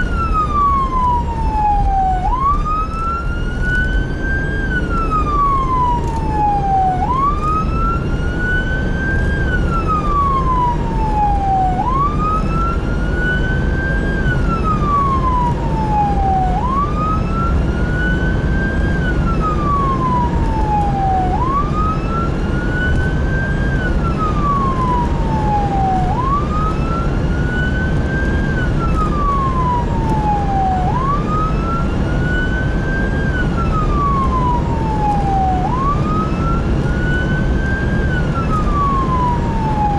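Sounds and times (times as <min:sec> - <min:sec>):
emergency siren wailing: 0:00.0 - 0:39.9
engine and road rumble: 0:00.0 - 0:39.9.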